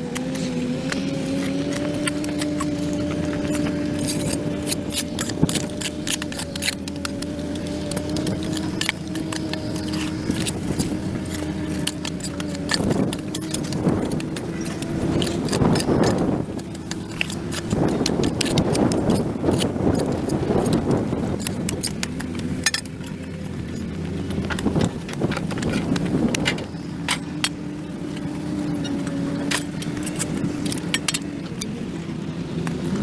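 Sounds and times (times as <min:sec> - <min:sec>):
tool scraping concrete: 0:00.0 - 0:31.8
steady low hum: 0:00.0 - 0:33.0.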